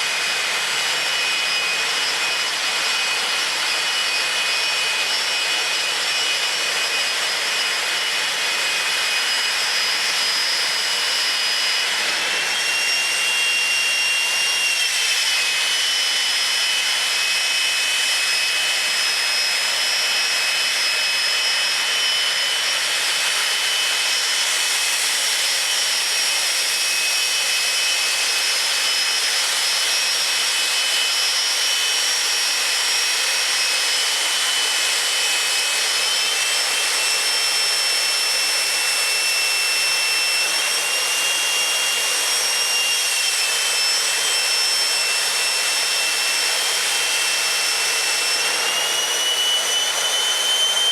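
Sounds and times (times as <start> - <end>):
jet engine whistling whine: 0.0 - 50.9.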